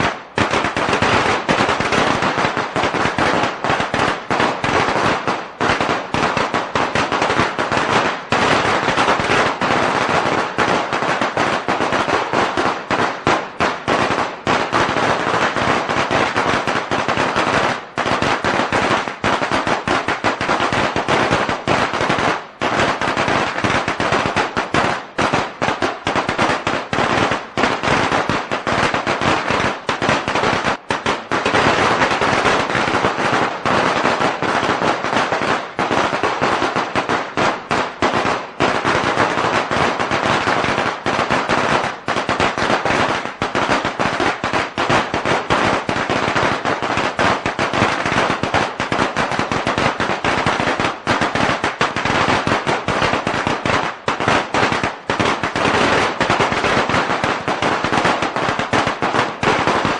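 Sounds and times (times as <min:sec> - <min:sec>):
firecrackers going off: 0:00.0 - 0:59.9.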